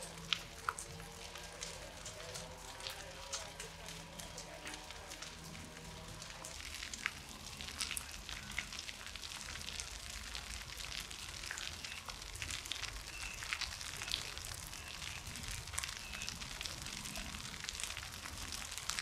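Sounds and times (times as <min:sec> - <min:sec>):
grass fire crackling and popping: 0:00.0 - 0:19.0
low fire rumble: 0:00.0 - 0:19.0.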